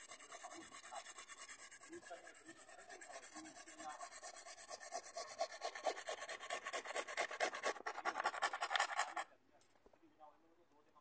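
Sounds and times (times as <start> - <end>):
hand file scraping plastic: 0.0 - 9.3.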